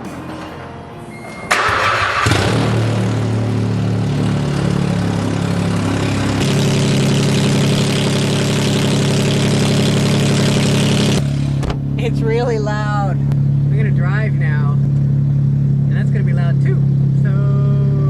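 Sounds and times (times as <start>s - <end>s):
loud car engine starting and idling: 0.0s - 18.0s.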